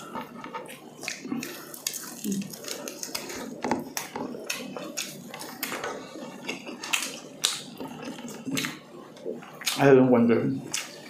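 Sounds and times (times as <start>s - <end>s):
people chewing: 0.0s - 11.0s.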